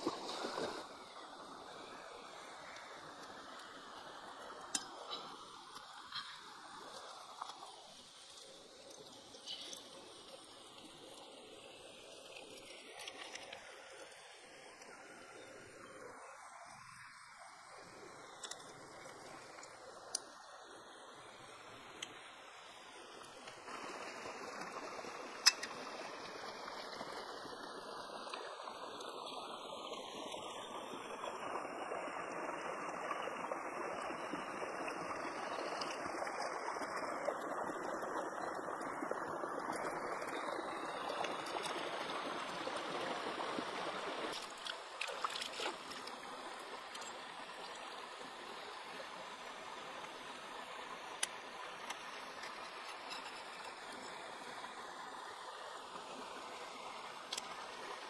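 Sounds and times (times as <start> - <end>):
stream water splashing: 0.0 - 58.0.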